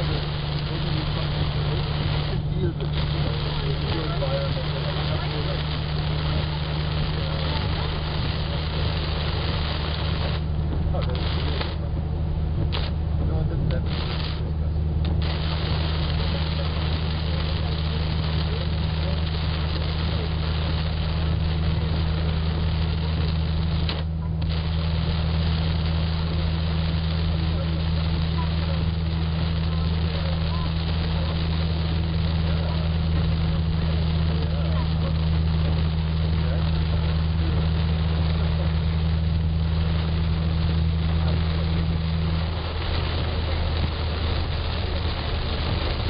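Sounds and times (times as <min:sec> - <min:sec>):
heavy rain on car roof: 0:00.0 - 0:11.9, 0:12.6 - 0:46.0
car engine drone: 0:00.0 - 0:46.0
tyres on wet road: 0:00.0 - 0:46.0.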